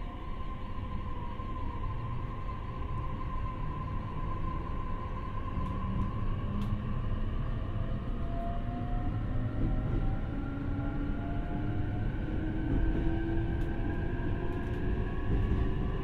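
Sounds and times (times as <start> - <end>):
train wheels rumbling on rail: 0.8 - 16.0.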